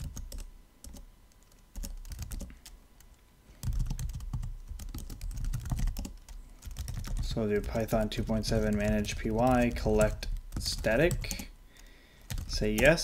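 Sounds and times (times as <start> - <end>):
keyboard keys clicking: 0.0 - 13.0.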